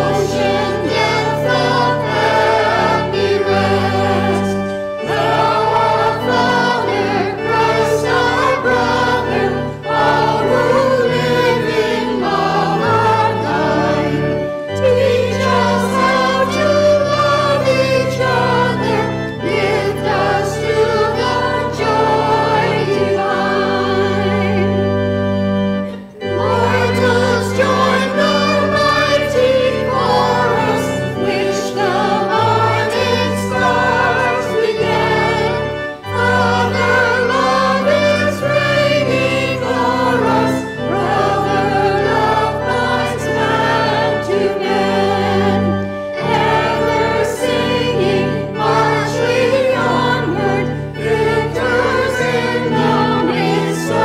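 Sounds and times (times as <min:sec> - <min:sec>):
choir singing a hymn: 0:00.0 - 0:54.0
sustained low accompaniment: 0:00.0 - 0:54.0.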